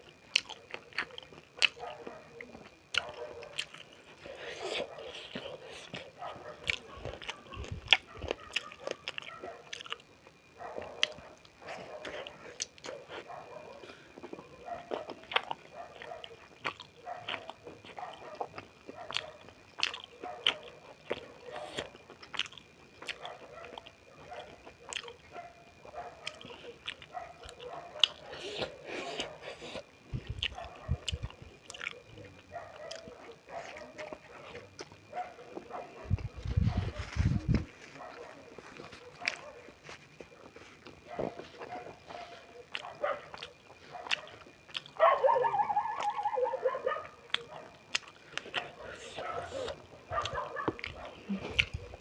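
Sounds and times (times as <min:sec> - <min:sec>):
chewing and mouth smacks: 0:00.3 - 0:45.0, 0:47.1 - 0:52.0.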